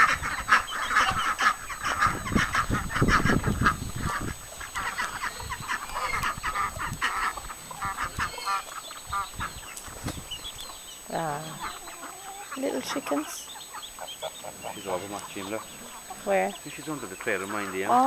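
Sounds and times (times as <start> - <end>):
ducks geese and hens calling: 0.0 - 18.0.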